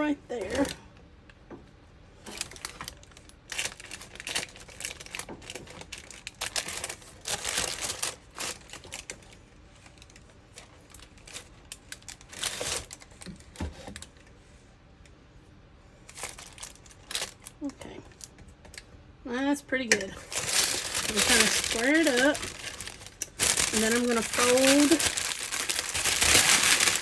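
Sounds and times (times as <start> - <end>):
wax paper crinkling: 0.3 - 0.8, 2.2 - 14.5, 16.0 - 18.6, 20.0 - 27.0.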